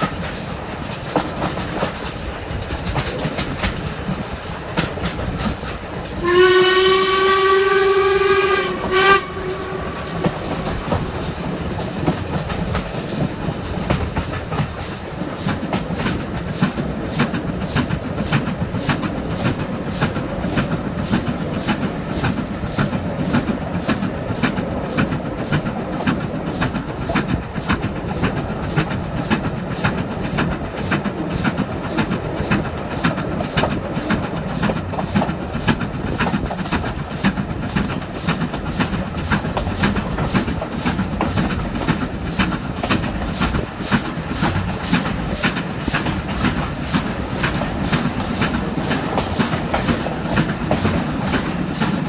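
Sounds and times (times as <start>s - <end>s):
carriage wheels rumbling on rails: 0.0s - 52.0s
steam locomotive exhaust beat: 0.0s - 52.0s.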